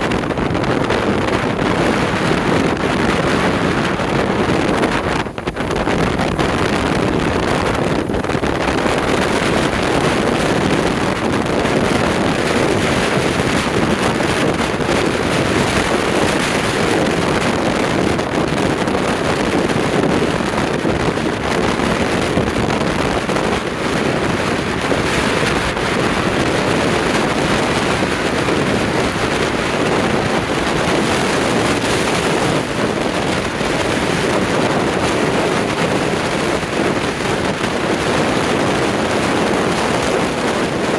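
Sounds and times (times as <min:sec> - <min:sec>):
surf breaking on shore: 0:00.0 - 0:40.9
wind buffeting microphone: 0:00.0 - 0:40.9.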